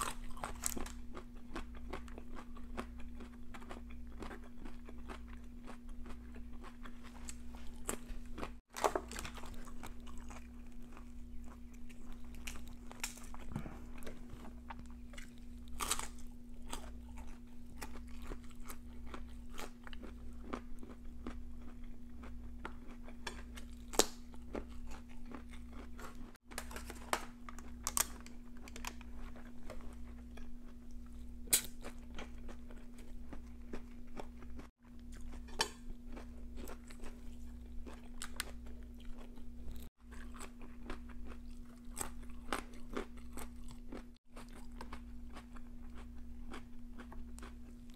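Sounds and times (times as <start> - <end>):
crunching raw vegetables: 0.0 - 47.9
steady low hum: 0.0 - 47.9.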